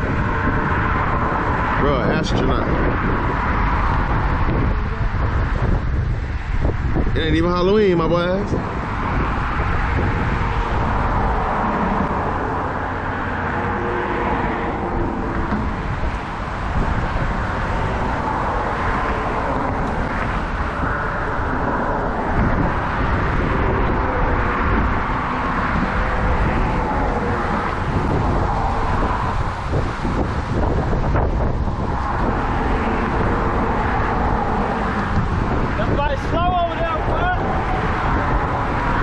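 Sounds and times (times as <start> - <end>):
motor rumbling: 0.0 - 39.0
wind on microphone: 0.0 - 39.0.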